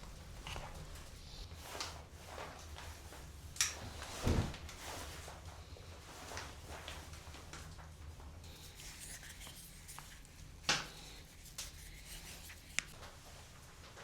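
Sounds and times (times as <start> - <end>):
handling and rustling: 0.0 - 14.0.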